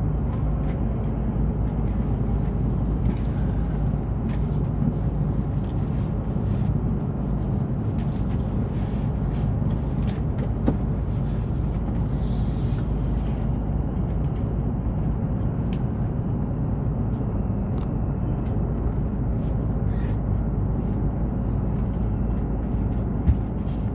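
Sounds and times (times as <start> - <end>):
train rumbling at speed: 0.0 - 23.9.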